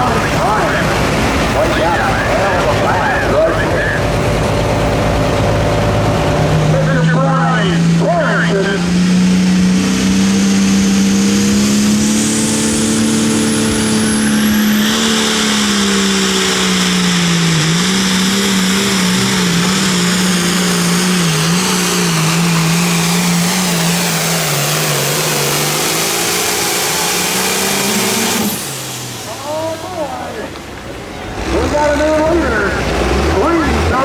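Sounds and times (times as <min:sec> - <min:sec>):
tractor engine at full throttle: 0:00.0 - 0:34.0.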